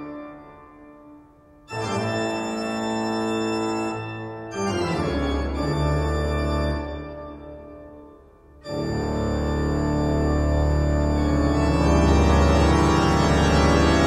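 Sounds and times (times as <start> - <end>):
organ playing held chords: 0.0 - 14.0.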